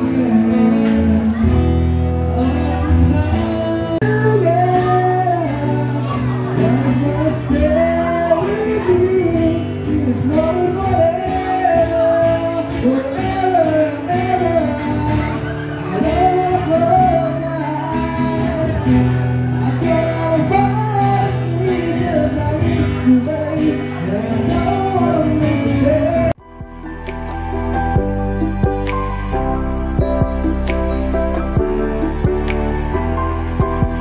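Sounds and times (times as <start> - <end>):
person singing: 0.0 - 19.0, 19.6 - 34.0
acoustic guitar: 0.0 - 34.0.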